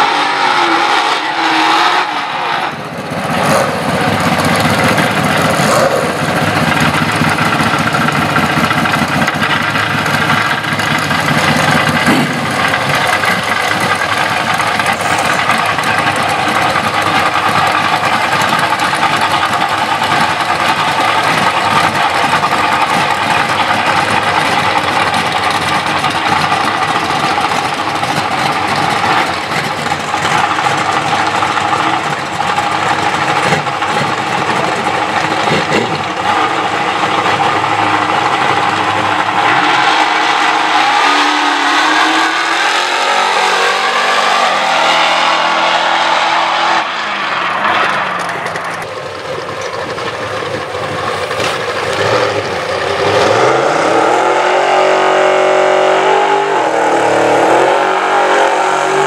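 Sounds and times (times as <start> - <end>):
car engine idling loudly: 0.0 - 59.0.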